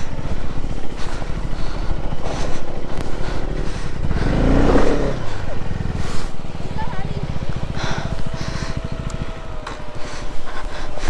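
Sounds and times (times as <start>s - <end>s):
motorcycle engine revving off-road: 0.0s - 11.0s.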